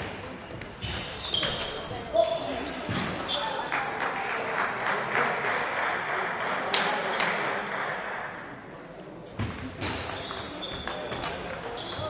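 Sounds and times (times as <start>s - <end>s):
murmur of voices in a hall: 0.0s - 12.0s.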